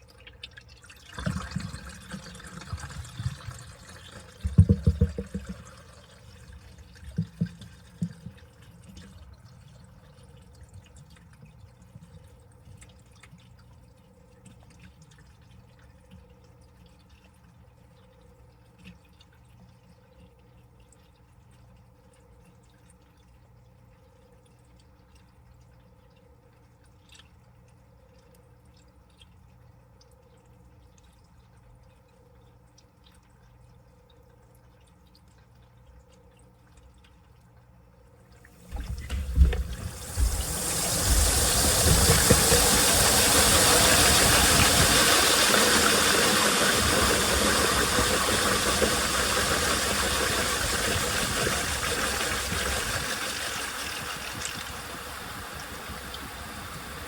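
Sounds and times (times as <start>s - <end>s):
water dripping in washing machine: 0.0s - 57.0s.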